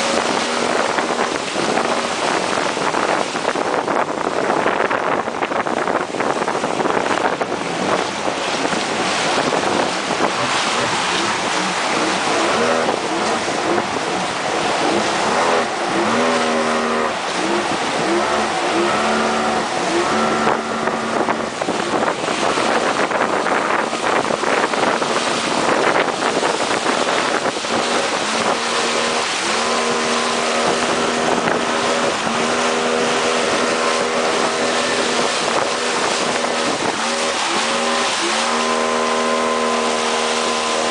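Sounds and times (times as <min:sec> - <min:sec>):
boat engine: 0:00.0 - 0:40.9
white water splashing on hull: 0:00.0 - 0:40.9.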